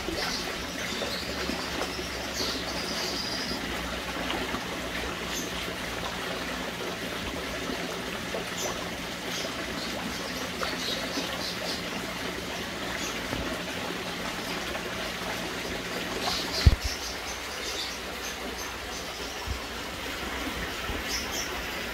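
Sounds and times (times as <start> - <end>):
pond water trickling and splashing: 0.0 - 21.9.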